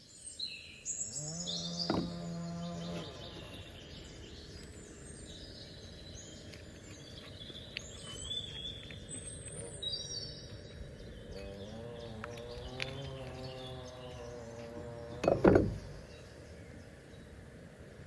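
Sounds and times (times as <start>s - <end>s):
birds chirping and singing: 0.1s - 17.4s.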